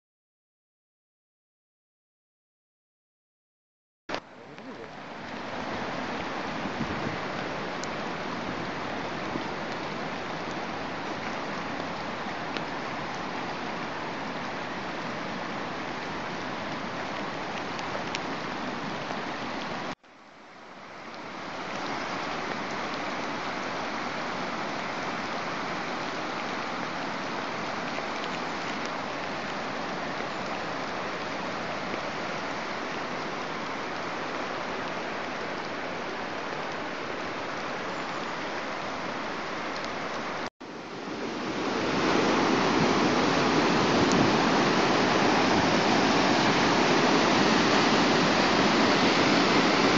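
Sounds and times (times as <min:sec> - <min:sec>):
flood water rushing: 0:04.1 - 0:49.9.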